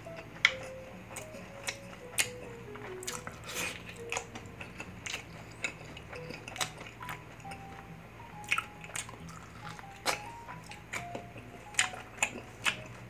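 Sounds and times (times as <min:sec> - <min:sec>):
chewing with crunches: 0:00.0 - 0:13.0
quiet background music: 0:00.0 - 0:13.0.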